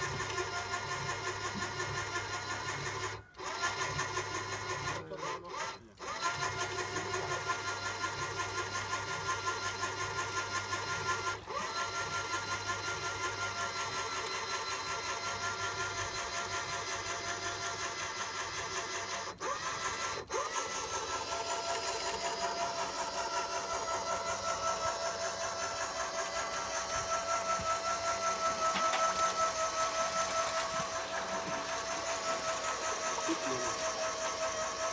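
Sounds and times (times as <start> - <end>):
engine idling with a flutter: 0.0 - 34.9.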